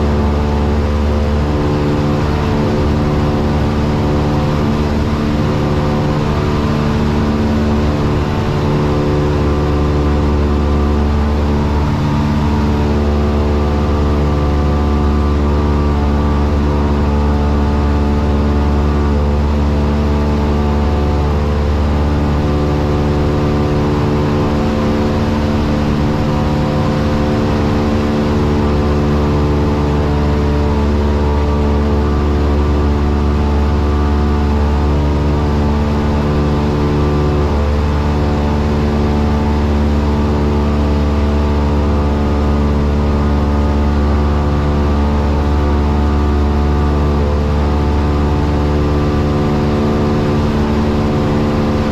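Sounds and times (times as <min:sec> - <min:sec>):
light aircraft engine droning: 0:00.0 - 0:51.9.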